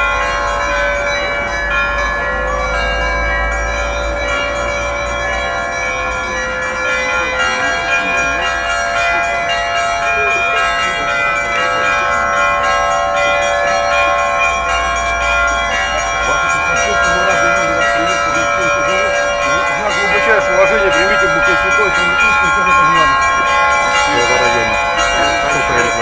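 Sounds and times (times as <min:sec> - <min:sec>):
large bells ringing: 0:00.0 - 0:26.0
small church bells struck quickly: 0:00.0 - 0:26.0.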